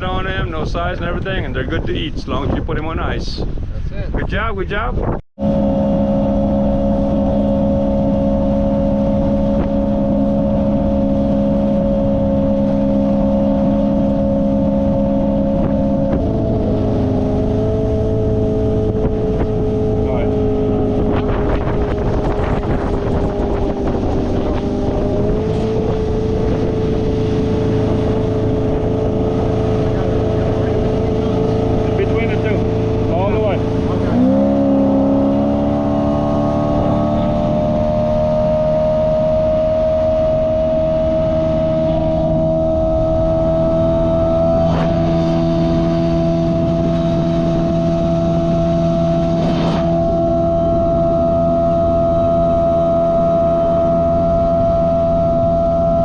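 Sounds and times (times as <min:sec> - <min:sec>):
motorboat engine running: 0:00.0 - 0:56.0
wind on microphone: 0:00.0 - 0:56.0
hull slapping water: 0:05.4 - 0:56.0.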